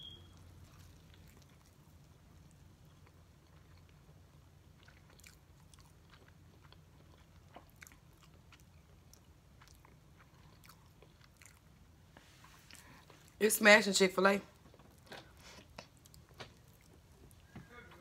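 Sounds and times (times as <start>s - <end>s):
chewing crispy food: 0.3s - 13.4s, 14.6s - 18.0s.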